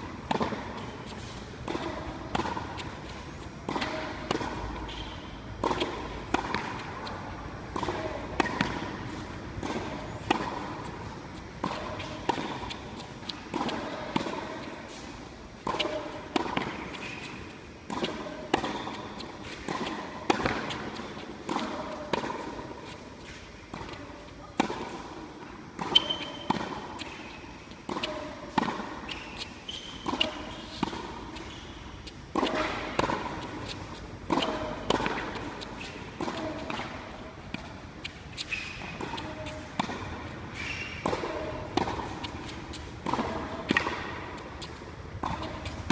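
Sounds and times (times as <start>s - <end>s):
tennis ball bouncing on court: 0.0s - 45.9s
tennis ball struck by rackets: 0.0s - 45.9s.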